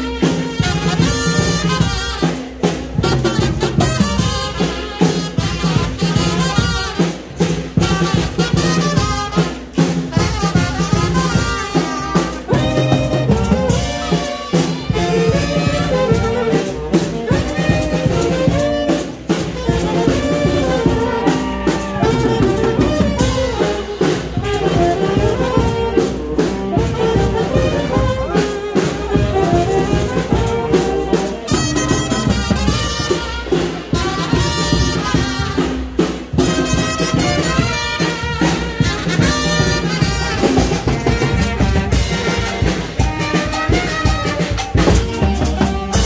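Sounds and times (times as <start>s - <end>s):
bass drum beat: 0.0s - 4.6s, 5.3s - 46.0s
brass band playing: 0.0s - 46.0s.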